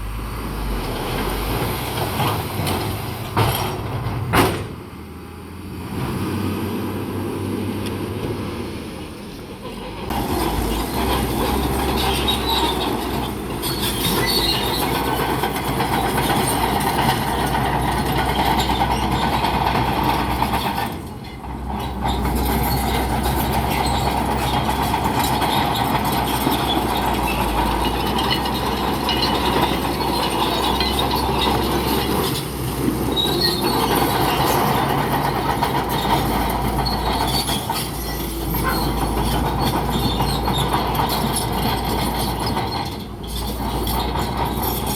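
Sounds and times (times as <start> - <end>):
steel tracks clanking: 0.5 - 5.0, 7.8 - 44.9.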